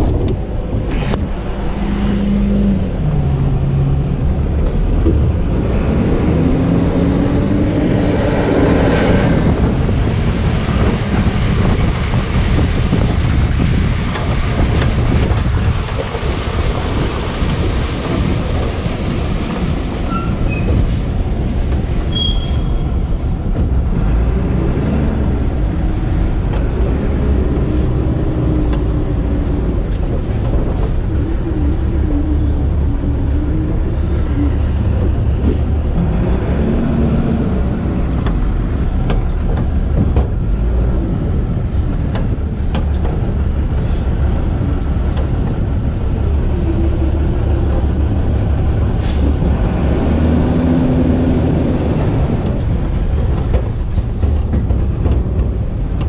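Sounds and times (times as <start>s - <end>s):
garbage truck engine rumble: 0.0s - 56.0s.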